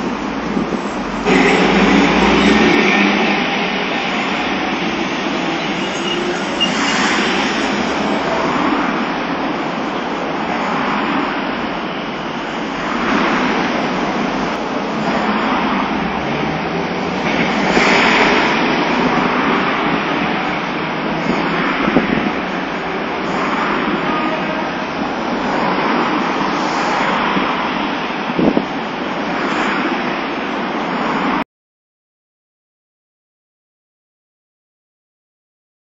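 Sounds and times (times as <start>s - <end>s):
wind buffeting microphone: 0.0s - 30.0s
streetcar pulling away: 0.0s - 31.3s
street traffic: 0.0s - 31.4s.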